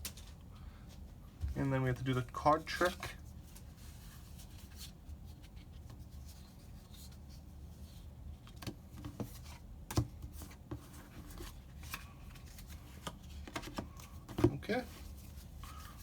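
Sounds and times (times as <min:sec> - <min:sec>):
cards being shuffled by hand: 0:00.0 - 0:16.0.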